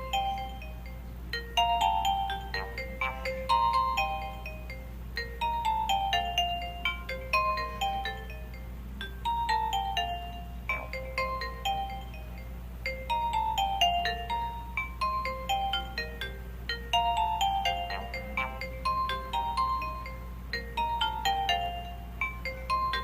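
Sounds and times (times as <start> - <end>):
mobile phone ringtone melody: 0.0 - 23.0
steady low hum: 0.0 - 23.0.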